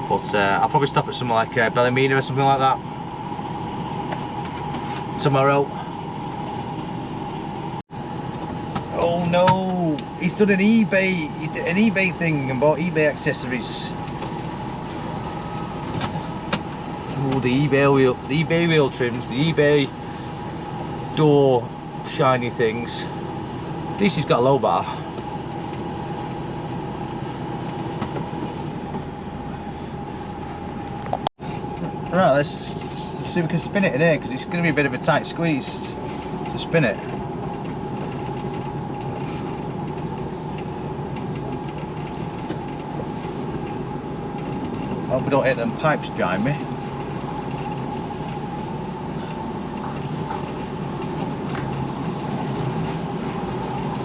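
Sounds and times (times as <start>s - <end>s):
constant whine: 0.0s - 54.0s
diesel engine running: 0.0s - 54.0s.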